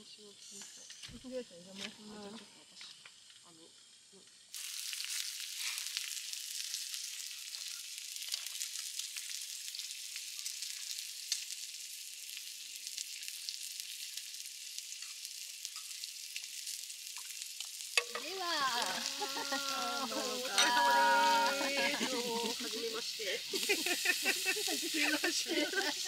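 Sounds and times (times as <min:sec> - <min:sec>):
food frying and sizzling: 0:00.0 - 0:26.0.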